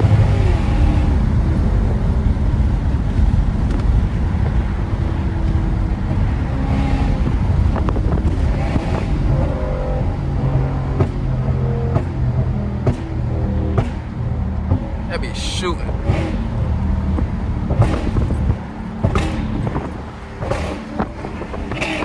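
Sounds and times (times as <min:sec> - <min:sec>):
car exhaust drone: 0:00.0 - 0:22.0
road noise: 0:00.0 - 0:22.0
wind noise: 0:00.0 - 0:22.0.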